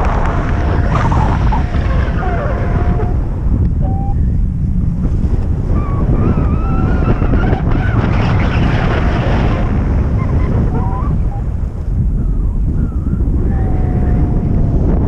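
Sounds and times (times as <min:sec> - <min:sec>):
faint wavering whine: 0:00.0 - 0:14.9
wind buffeting microphone: 0:00.0 - 0:15.0.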